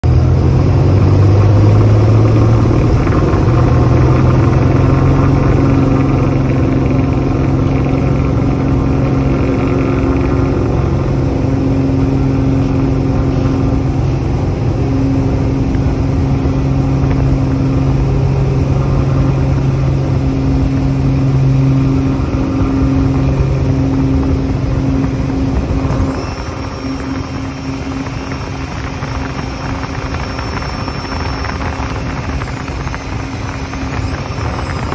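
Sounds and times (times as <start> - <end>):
airplane engine drone: 0.0 - 34.9.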